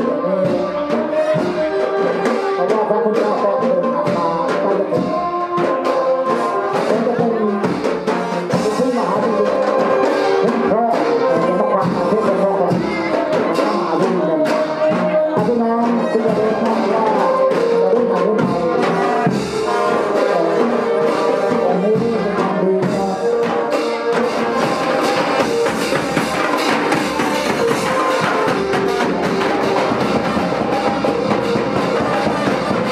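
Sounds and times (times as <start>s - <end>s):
brass band music with drums: 0.0s - 32.9s.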